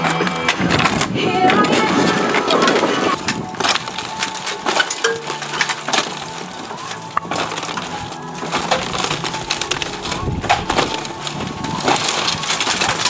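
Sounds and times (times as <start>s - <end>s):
debris sliding and dropping: 0.0s - 13.0s
hand tools prying and scraping shingles: 0.0s - 13.0s
wood cracking and splintering: 0.0s - 13.0s.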